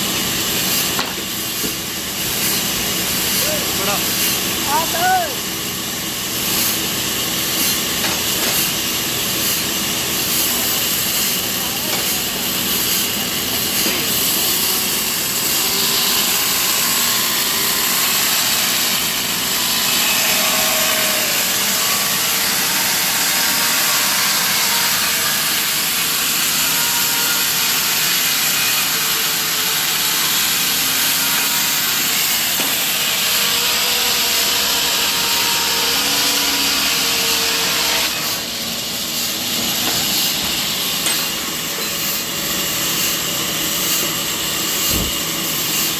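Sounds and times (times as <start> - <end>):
sawmill saw cutting log: 0.0 - 45.9.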